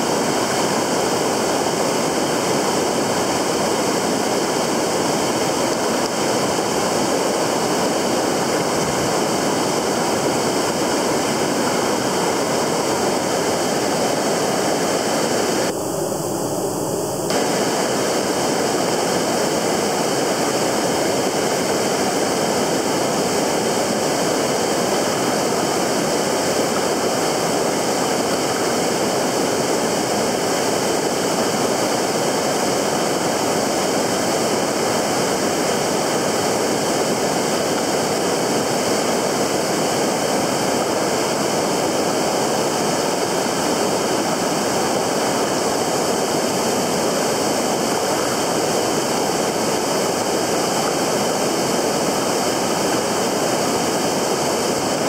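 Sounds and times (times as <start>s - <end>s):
fast-flowing river water: 0.0s - 55.0s.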